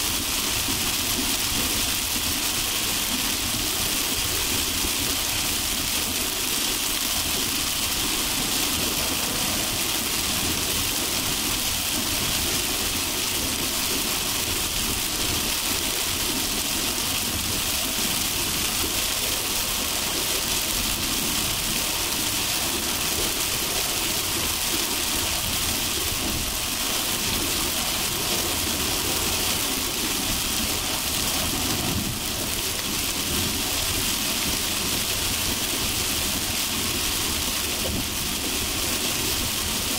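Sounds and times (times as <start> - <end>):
car tyre and engine noise: 0.0 - 39.9
heavy rain on a car: 0.0 - 39.9.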